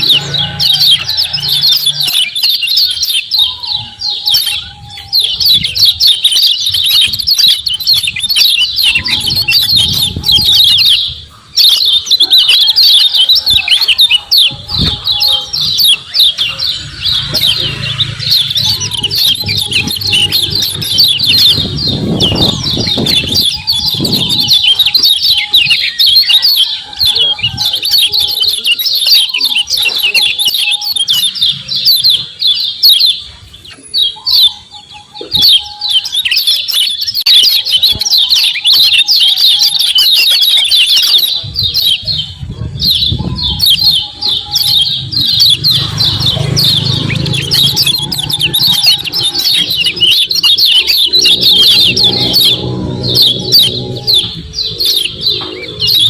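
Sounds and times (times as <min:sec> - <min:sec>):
birds chattering high chirps: 0:00.0 - 0:56.0.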